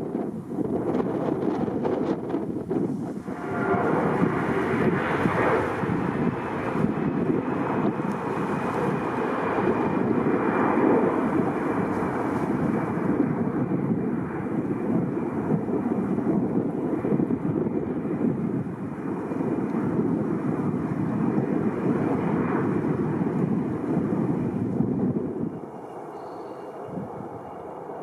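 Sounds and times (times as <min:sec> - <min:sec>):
airliner engine rushing: 0:00.0 - 0:28.0.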